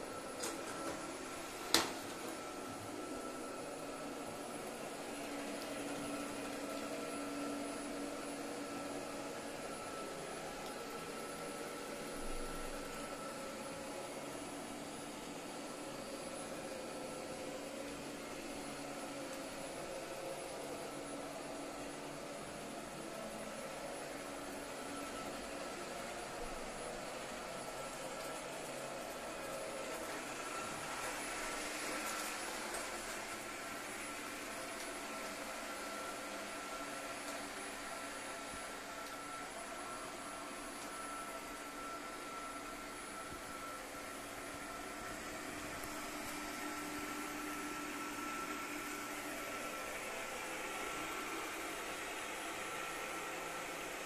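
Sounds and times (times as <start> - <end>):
robot vacuum fan whirring: 0.0 - 54.0.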